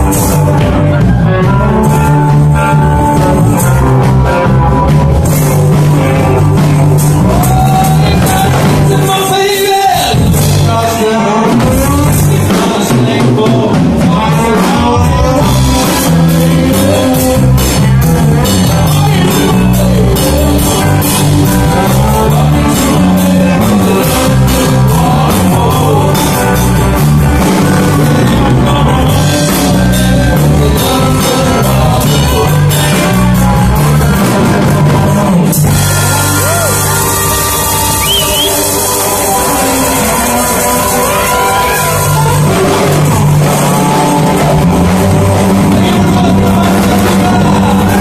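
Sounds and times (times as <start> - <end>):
bass guitar: 0.0 - 48.0
drums: 0.0 - 48.0
electric guitars: 0.0 - 48.0
person singing: 0.0 - 48.0.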